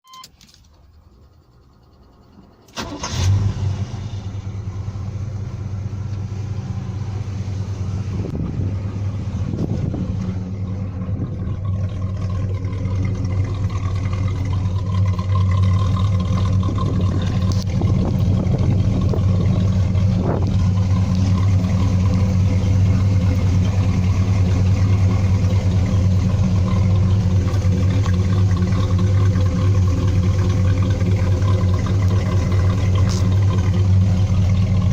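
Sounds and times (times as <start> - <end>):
car engine idling: 0.1 - 34.9
car engine starting: 0.1 - 34.9.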